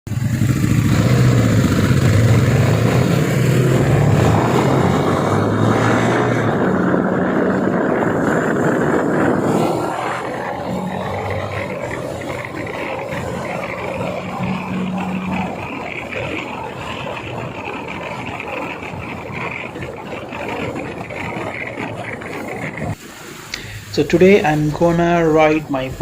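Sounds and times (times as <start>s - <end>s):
motorcycle engine running: 0.1s - 23.0s
steady rushing noise: 0.1s - 26.0s.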